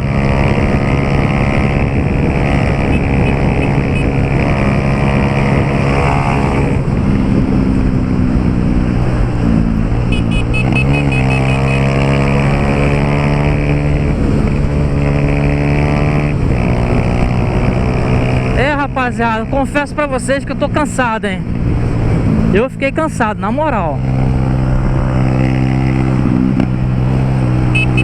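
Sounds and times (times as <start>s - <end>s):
motorcycle engine running loud: 0.0s - 23.3s, 23.9s - 28.0s.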